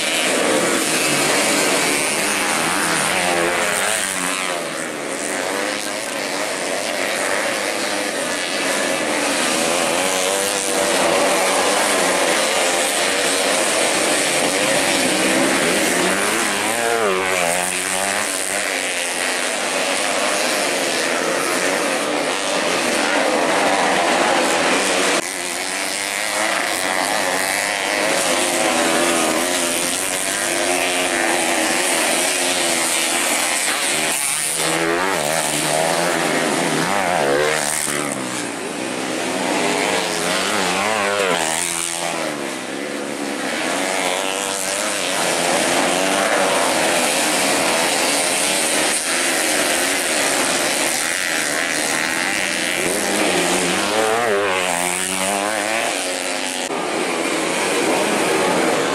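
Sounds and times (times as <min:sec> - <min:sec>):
dirt bike engines revving: 0:00.0 - 0:58.9.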